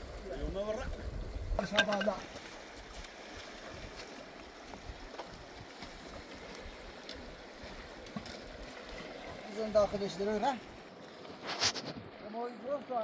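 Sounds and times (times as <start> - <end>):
river water rushing: 1.6 - 13.0.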